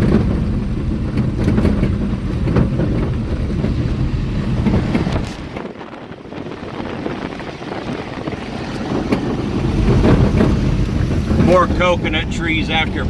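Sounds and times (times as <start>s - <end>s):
car engine and tyre rumble: 0.0s - 13.0s
wind buffeting microphone: 0.0s - 13.0s.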